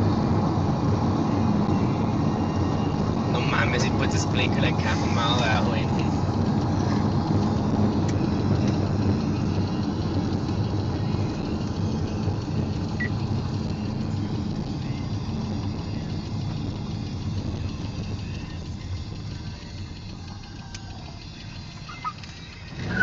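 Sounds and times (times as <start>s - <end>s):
car engine at cruise: 0.0s - 23.0s
tyre and road noise: 0.0s - 23.0s.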